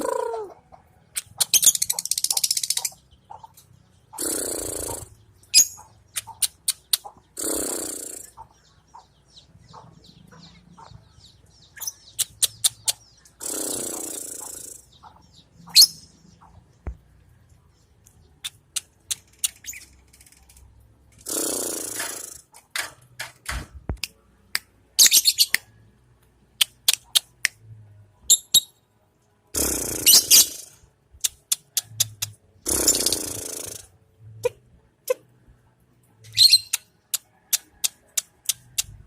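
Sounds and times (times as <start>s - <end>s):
bird chirping: 0.0s - 22.7s, 24.6s - 27.6s, 28.2s - 28.9s, 29.6s - 35.2s, 36.2s - 39.0s.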